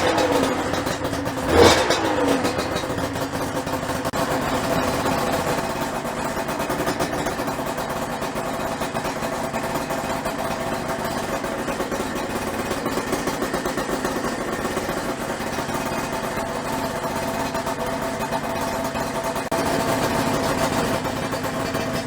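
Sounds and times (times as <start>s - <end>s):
two-stroke motorcycle engine idling: 0.0s - 22.0s.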